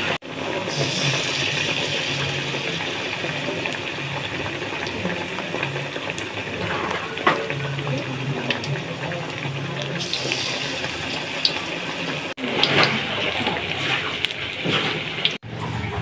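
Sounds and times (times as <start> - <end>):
food sizzling in hot oil: 0.0 - 15.4.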